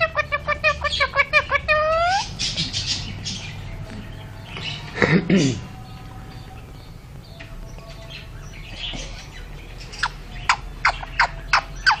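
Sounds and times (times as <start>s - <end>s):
parakeet chirping: 0.0s - 4.9s, 5.8s - 12.0s.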